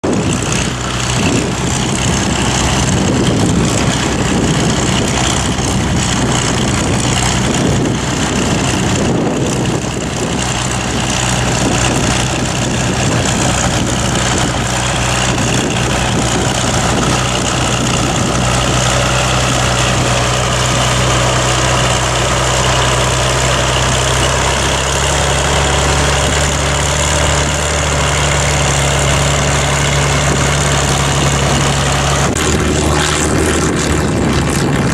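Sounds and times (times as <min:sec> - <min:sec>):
tractor diesel engine running: 0:00.0 - 0:34.9
wind buffeting microphone: 0:00.0 - 0:34.9.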